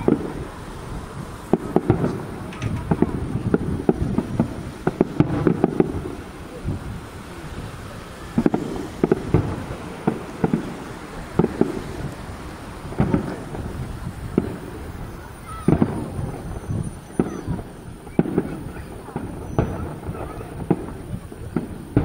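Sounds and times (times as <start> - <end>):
distant firework booms: 0.0 - 22.0
wind rumble on microphone: 0.0 - 22.0.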